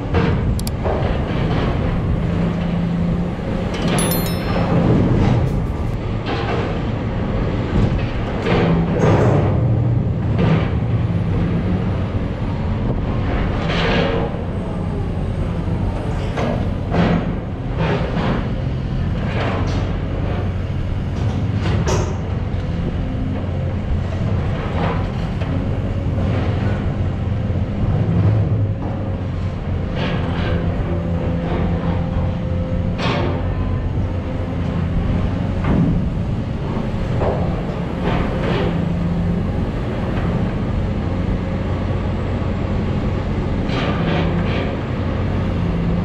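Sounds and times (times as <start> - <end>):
diesel excavator running: 0.0 - 46.0.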